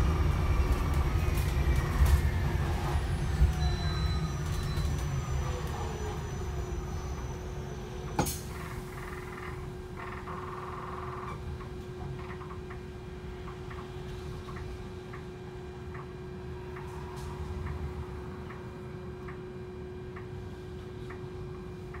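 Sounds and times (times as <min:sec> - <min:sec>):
bus rumble: 0:00.0 - 0:22.0.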